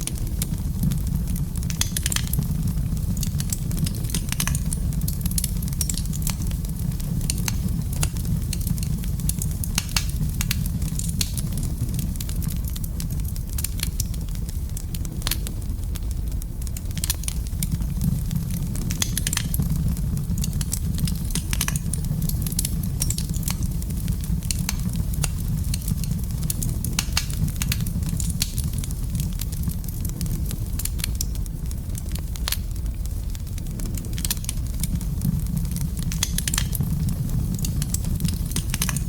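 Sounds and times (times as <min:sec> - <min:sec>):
fire crackling in fireplace: 0:00.0 - 0:39.0.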